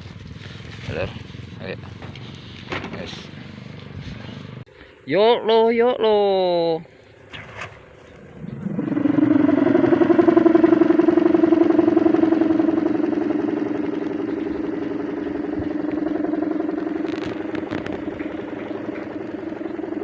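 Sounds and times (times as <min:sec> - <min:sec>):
kite hummer droning: 0:00.0 - 0:20.0.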